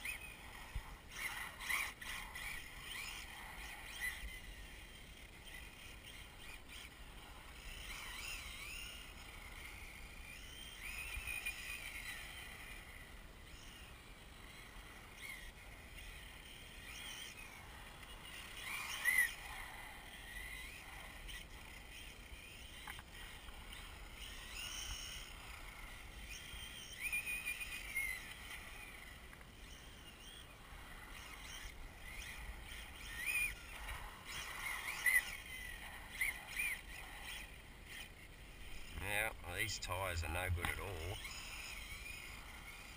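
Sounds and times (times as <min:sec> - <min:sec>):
electric motor whining: 0:00.0 - 0:42.9
faint steady hiss: 0:00.0 - 0:42.9.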